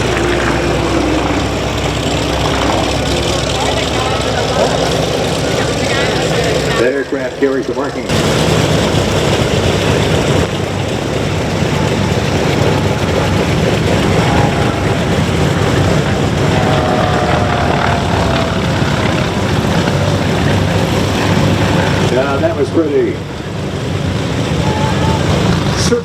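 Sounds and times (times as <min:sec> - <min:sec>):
radial piston aircraft engines: 0:00.0 - 0:26.0.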